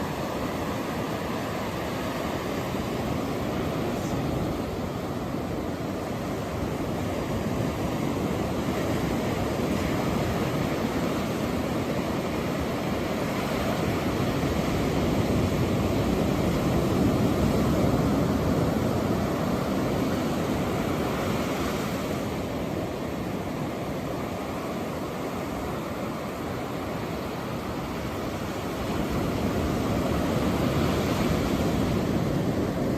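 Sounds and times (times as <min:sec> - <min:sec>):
ocean surf washing on beach: 0:00.0 - 0:32.9.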